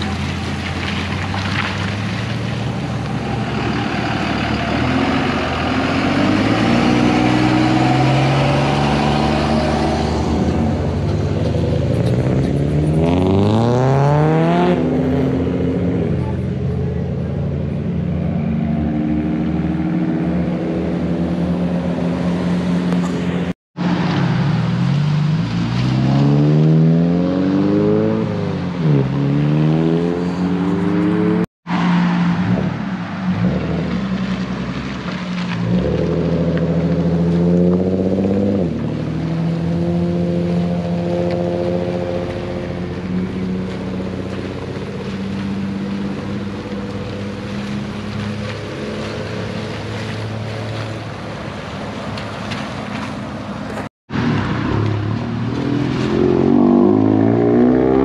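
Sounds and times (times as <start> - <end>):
car engines accelerating: 0.0 - 58.0.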